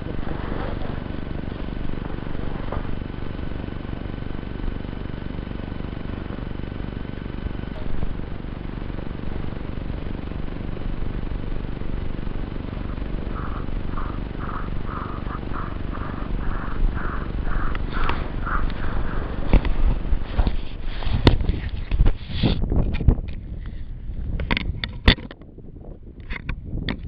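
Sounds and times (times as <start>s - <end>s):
faint electronic whine: 0.0s - 22.2s
wind rumbling on microphone: 0.0s - 27.0s.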